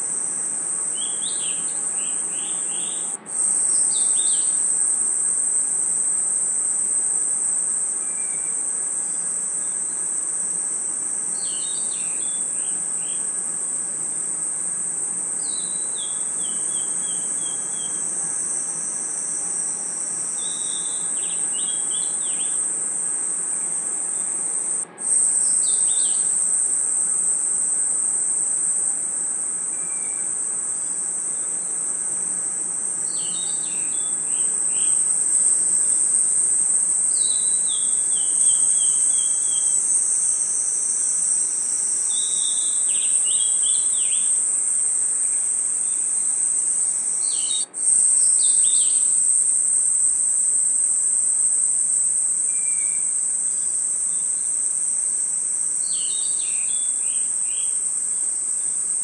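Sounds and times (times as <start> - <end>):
crickets trilling: 0.0 - 59.0
insects chirping: 0.0 - 59.0.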